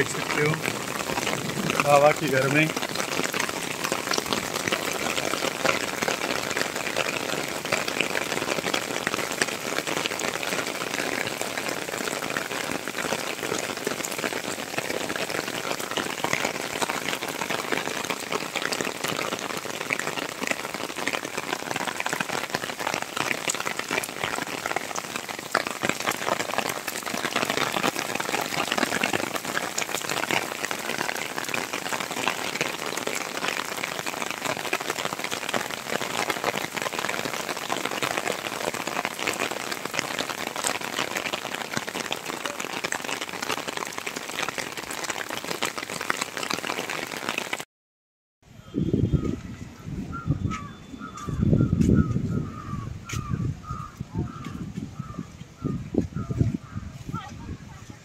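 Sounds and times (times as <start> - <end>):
heavy rain on concrete: 0.0 - 47.7, 48.4 - 58.0.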